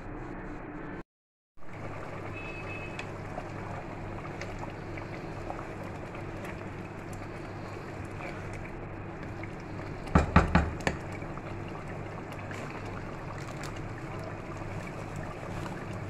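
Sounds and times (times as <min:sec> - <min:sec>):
pot boiling vigorously: 0:01.6 - 0:16.0.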